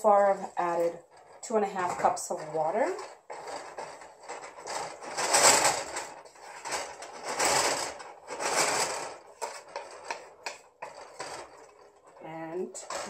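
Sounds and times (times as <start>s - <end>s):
wooden spatula scraping a pan: 0.0s - 13.0s.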